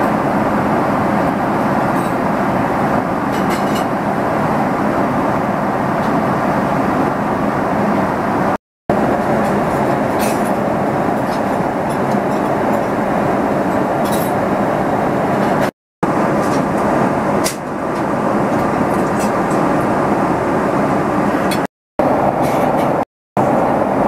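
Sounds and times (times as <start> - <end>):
airliner cabin noise: 0.0 - 24.0.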